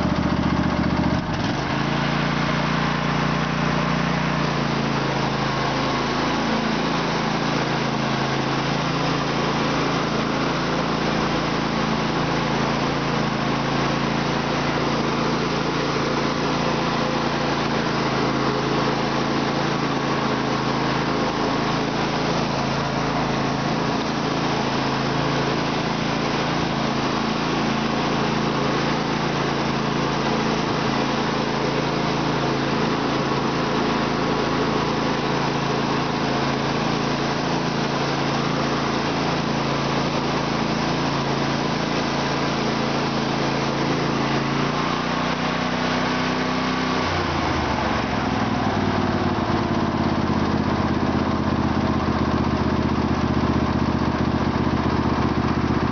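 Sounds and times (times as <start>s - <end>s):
lawn tractor engine running: 0.0s - 55.9s.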